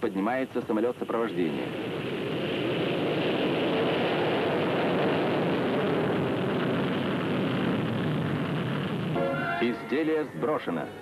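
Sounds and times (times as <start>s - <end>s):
jet aircraft taking off: 0.9s - 11.0s.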